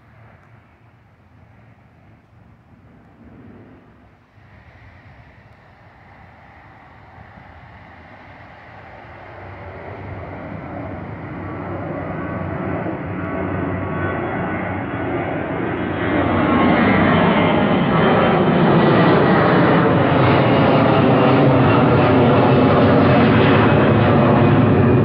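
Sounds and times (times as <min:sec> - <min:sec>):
airliner engines passing overhead: 0:00.0 - 0:25.0.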